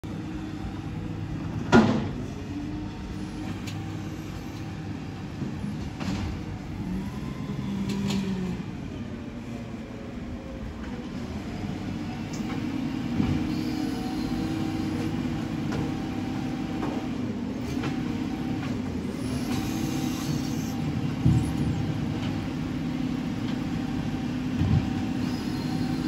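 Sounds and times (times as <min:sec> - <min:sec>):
garbage truck diesel engine: 0:00.0 - 0:26.0.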